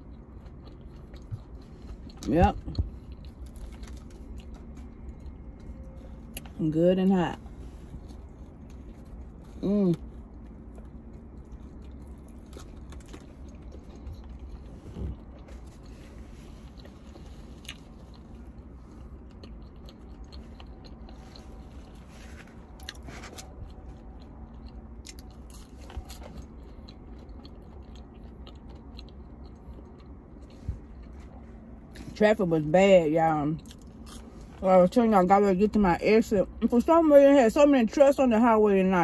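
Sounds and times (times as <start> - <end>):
person chewing food: 0.0 - 6.6, 7.4 - 32.1, 33.6 - 34.6
steady low hum: 0.0 - 39.0.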